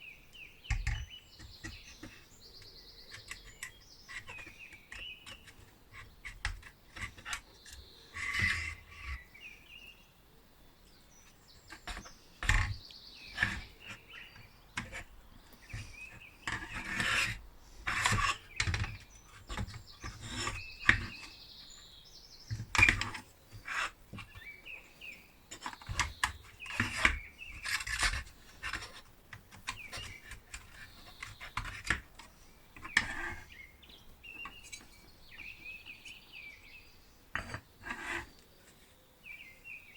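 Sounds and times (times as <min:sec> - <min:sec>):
birds chirping faintly: 0:00.0 - 0:39.9.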